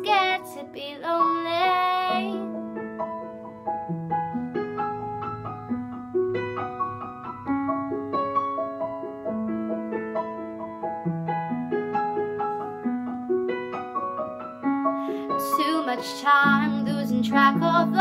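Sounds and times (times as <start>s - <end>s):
piano broken chords: 0.0s - 18.0s.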